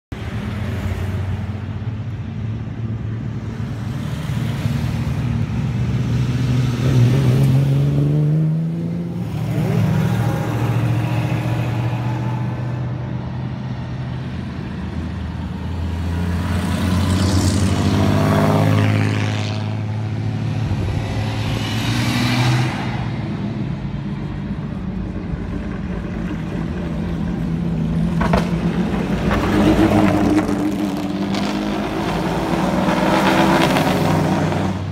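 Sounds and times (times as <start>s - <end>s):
cars driving past: 0.2s - 34.9s.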